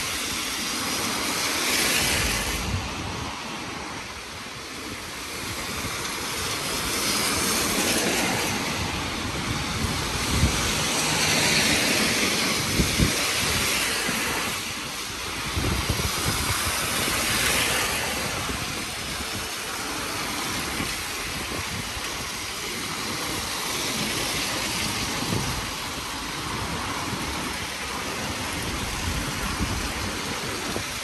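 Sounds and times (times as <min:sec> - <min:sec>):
vehicle passing in rain: 0:00.2 - 0:03.0, 0:06.5 - 0:31.0.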